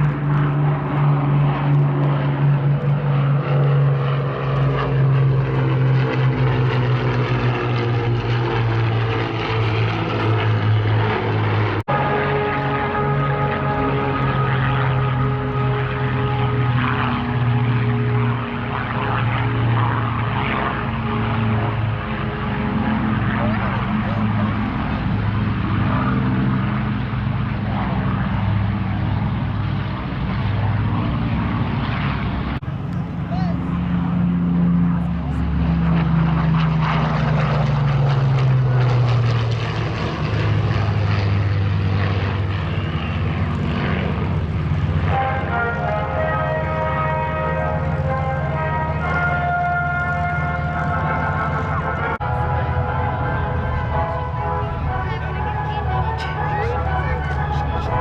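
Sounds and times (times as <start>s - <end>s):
propeller aircraft engines droning: 0.0s - 58.0s.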